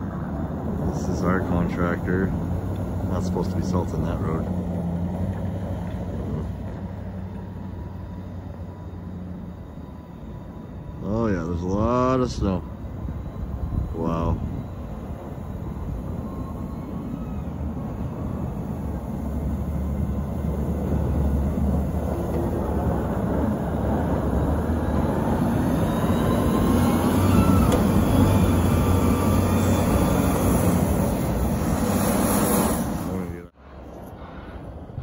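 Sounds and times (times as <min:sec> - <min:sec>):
diesel engine running under load: 0:00.0 - 0:33.5.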